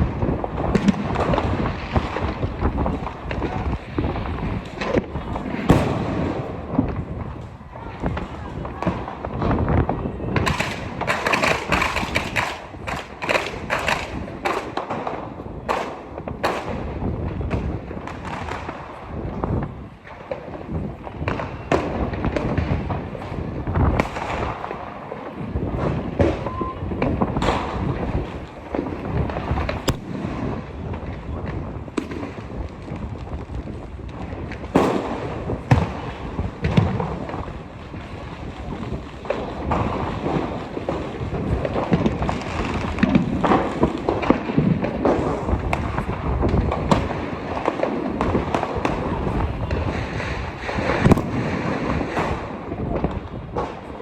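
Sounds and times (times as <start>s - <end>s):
firecrackers banging: 0.0s - 54.0s.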